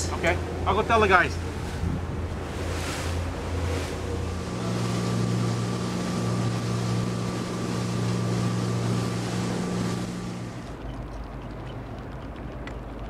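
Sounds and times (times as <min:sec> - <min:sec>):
motorboat engine running: 0:00.0 - 0:13.0
wind: 0:00.0 - 0:13.0.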